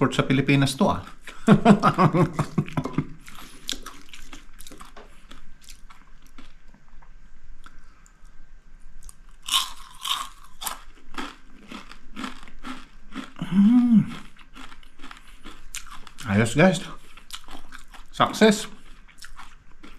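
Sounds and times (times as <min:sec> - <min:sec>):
crunching and chewing: 0:02.6 - 0:08.4, 0:09.0 - 0:19.9.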